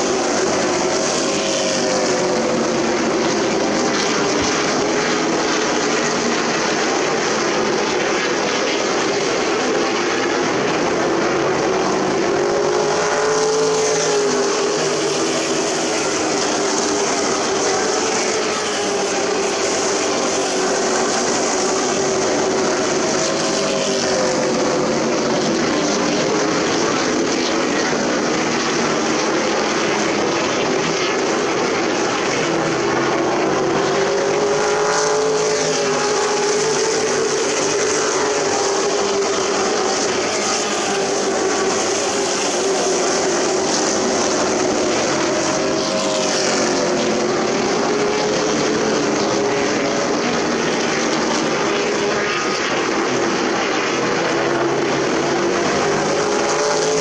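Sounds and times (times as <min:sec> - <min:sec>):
race trucks passing: 0:00.0 - 0:57.0.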